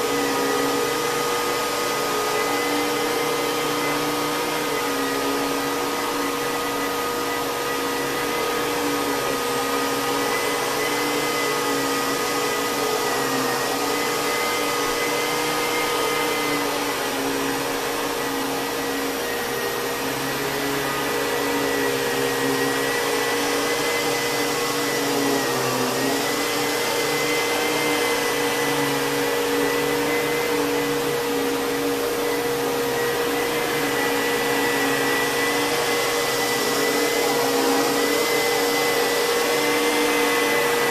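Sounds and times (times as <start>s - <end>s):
vacuum cleaner motor whine: 0.0s - 40.9s.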